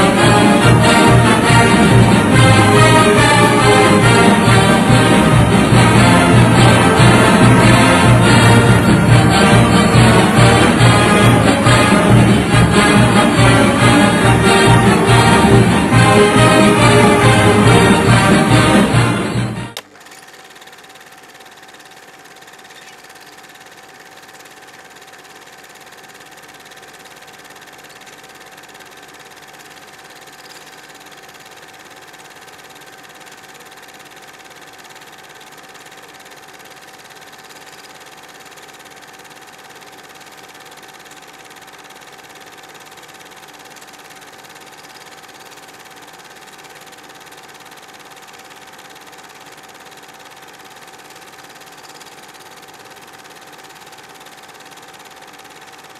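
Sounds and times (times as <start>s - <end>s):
mechanical whir with hum: 0.0s - 55.9s.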